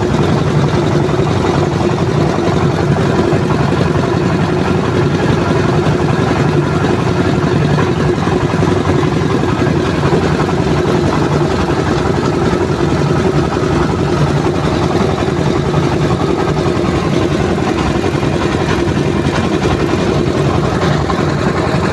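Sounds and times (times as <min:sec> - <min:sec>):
rice milling machine running: 0:00.0 - 0:21.9.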